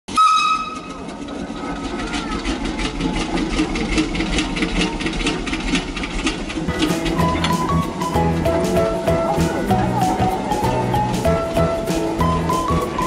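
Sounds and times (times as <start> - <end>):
steam engine chuffing: 0.1 - 13.0.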